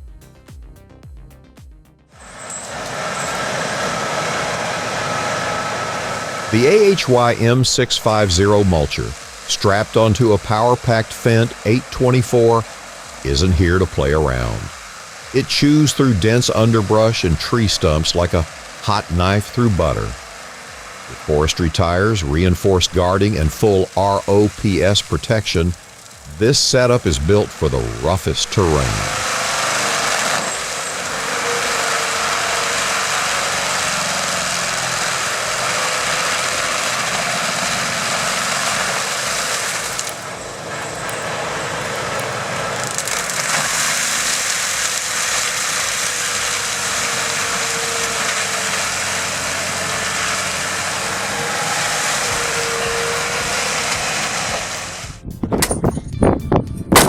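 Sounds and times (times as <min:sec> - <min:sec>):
tractor engine running: 0:02.0 - 0:57.0
forestry mulcher running: 0:02.2 - 0:55.3.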